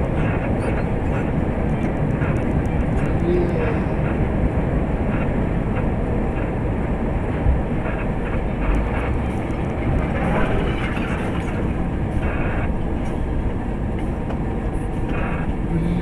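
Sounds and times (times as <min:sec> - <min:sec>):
vehicle rumble from inside: 0:00.0 - 0:16.0.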